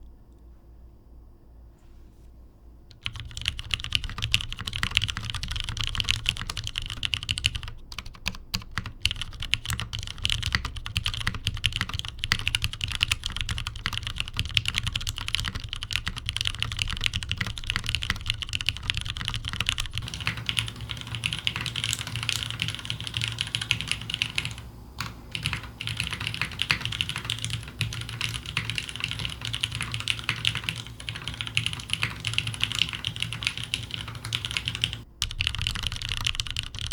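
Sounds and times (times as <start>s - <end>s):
mechanical keyboard typing: 2.9s - 36.9s.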